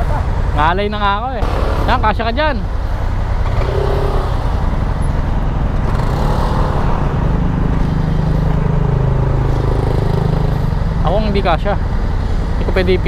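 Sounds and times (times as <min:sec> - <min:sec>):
motorcycle engine running: 0:00.0 - 0:13.0
other vehicle engines: 0:00.0 - 0:13.0.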